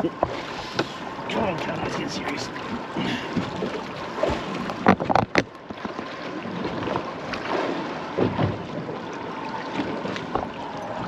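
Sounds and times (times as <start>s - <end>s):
water around boat hull: 0.0s - 11.0s.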